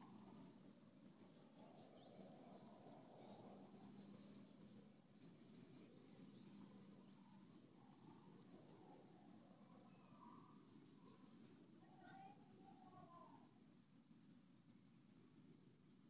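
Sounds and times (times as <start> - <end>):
faint background hiss: 0.0 - 16.0
insect chirping: 0.0 - 16.0.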